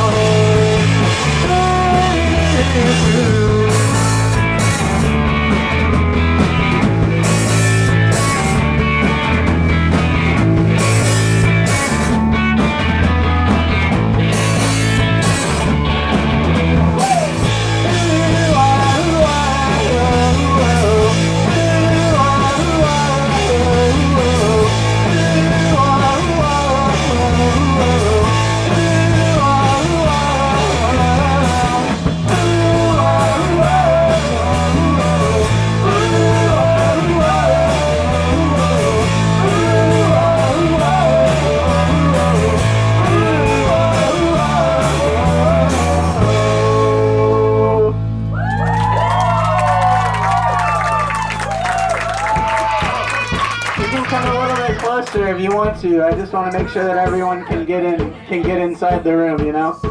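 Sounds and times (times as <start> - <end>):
drums and cymbals: 0.0 - 47.2, 51.4 - 59.9
electric guitar: 0.0 - 58.6
bass line: 0.0 - 59.9.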